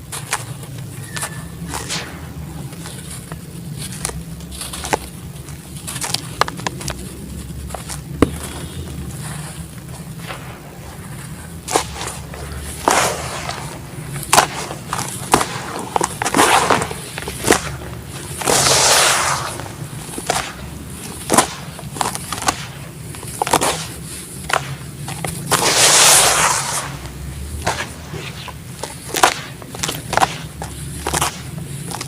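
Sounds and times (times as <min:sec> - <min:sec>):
gritty crumbling: 0:00.0 - 0:32.0.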